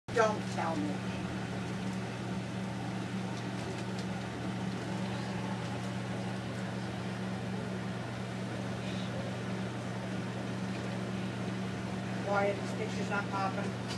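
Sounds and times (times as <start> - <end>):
appliance motor hum: 0.1 - 13.9.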